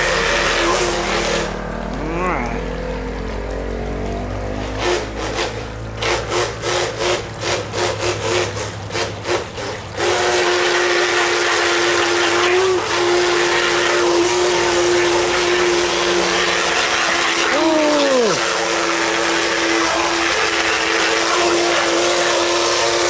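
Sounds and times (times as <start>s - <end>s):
toy boat electric motor whine: 0.0s - 23.0s.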